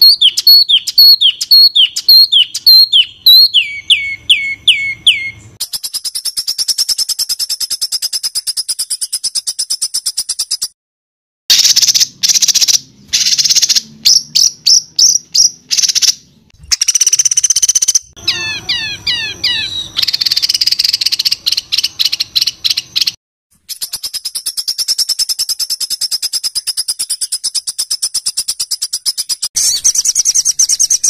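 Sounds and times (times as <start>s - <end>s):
songbird harsh song: 0.0s - 10.7s, 11.5s - 31.0s.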